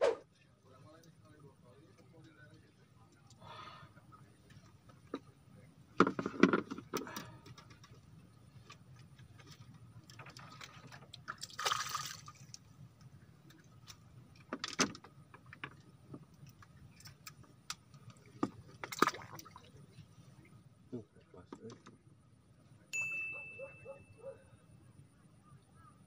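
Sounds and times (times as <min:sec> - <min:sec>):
faint steady low hum: 0:00.2 - 0:26.0.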